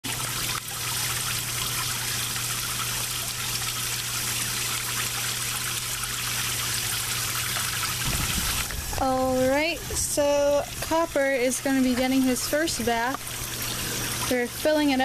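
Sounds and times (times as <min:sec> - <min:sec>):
hose water spraying into tub: 0:00.0 - 0:15.0
steady low hum: 0:00.1 - 0:15.0.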